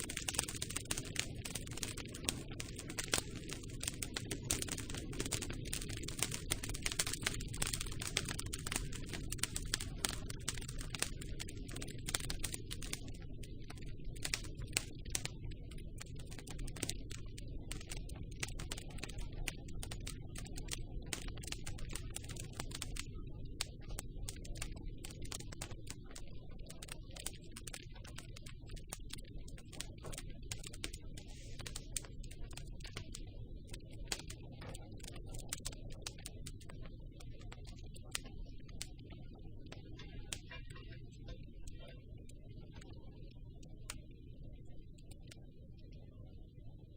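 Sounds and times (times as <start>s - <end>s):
campfire crackling: 0.0s - 40.7s
low rumble of burning wood: 0.0s - 46.8s.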